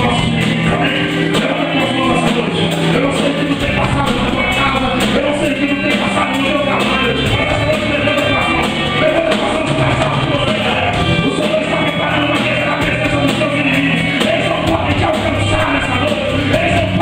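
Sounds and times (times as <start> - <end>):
drums beating: 0.0 - 17.0
gospel band playing: 0.0 - 17.0
people singing: 0.0 - 17.0.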